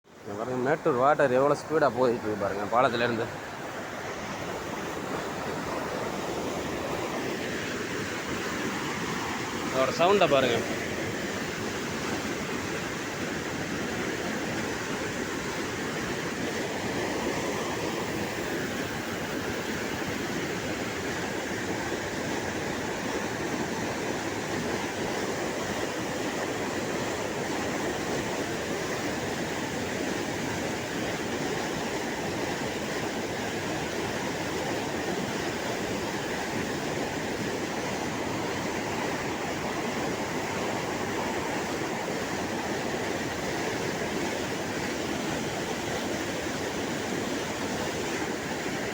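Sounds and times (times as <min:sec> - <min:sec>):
river water rushing: 0:00.1 - 0:48.9.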